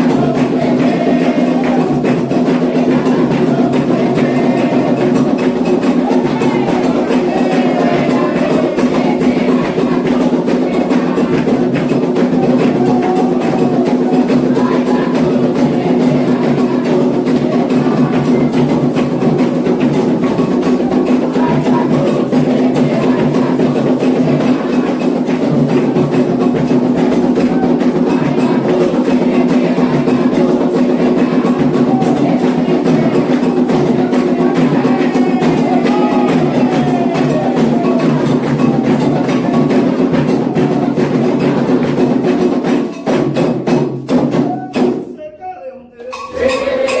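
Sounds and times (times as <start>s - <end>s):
hand drums fast rhythm: 0.0s - 45.1s, 46.1s - 47.0s.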